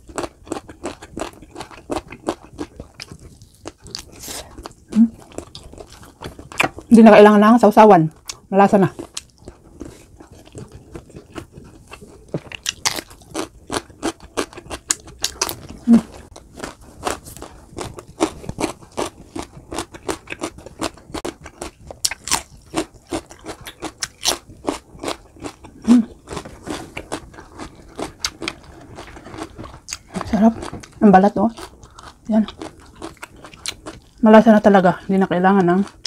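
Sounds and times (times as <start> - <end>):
chewing roasted chicken: 0.0 - 7.0, 7.8 - 36.0.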